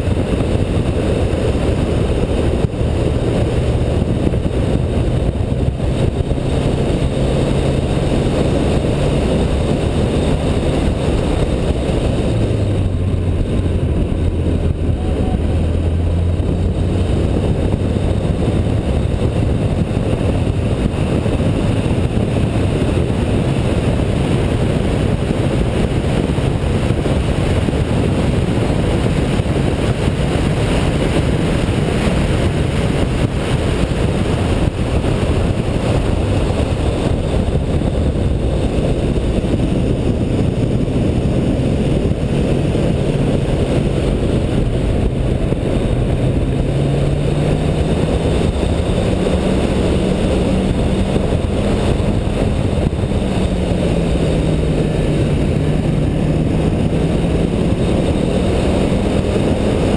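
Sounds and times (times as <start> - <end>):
car engine drone: 0.0 - 59.9
wind and road rush: 0.0 - 59.9.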